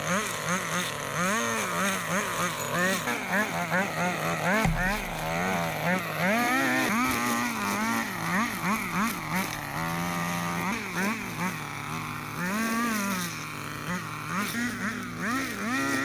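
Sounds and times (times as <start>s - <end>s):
string trimmer engine revving: 0.0s - 16.0s.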